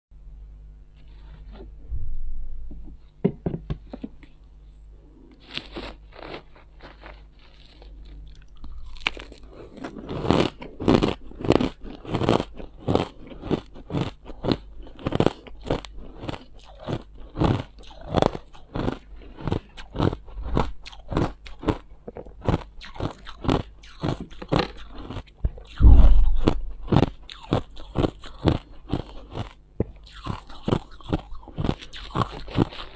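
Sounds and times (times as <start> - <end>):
low steady hum: 0.2 - 32.9
ice crunching in mouth: 5.4 - 32.9.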